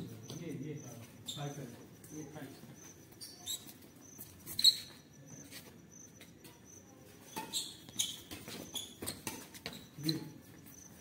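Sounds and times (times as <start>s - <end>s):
shoes squeaking on court: 0.0s - 11.0s.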